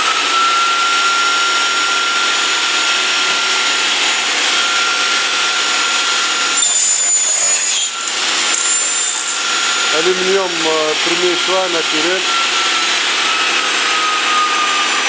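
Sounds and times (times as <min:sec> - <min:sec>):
power machine whining: 0:00.0 - 0:15.0.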